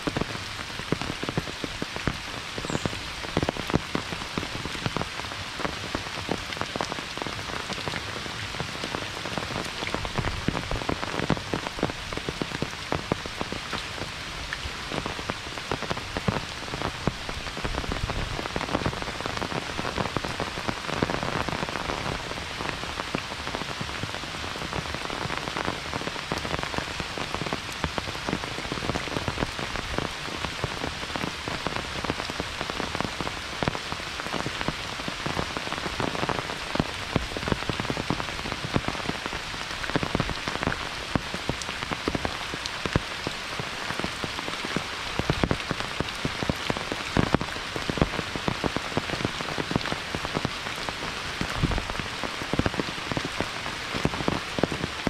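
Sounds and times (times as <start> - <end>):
heavy rain falling: 0.0 - 55.0
raindrops pattering nearby: 0.0 - 55.0.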